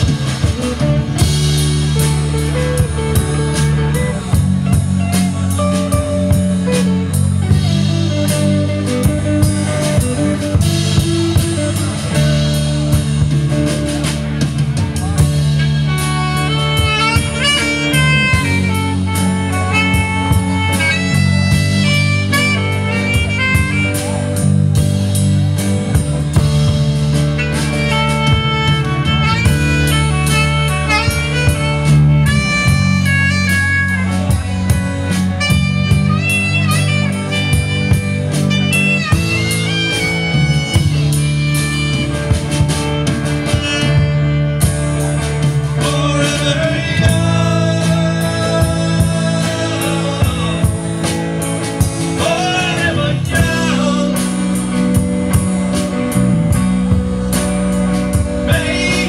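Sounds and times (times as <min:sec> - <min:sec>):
live band playing instrumental: 0:00.0 - 0:59.0.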